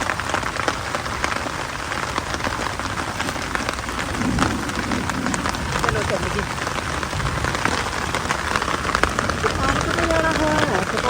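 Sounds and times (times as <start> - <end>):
heavy rain falling: 0.0 - 11.0
raindrops striking sharply: 0.0 - 11.0.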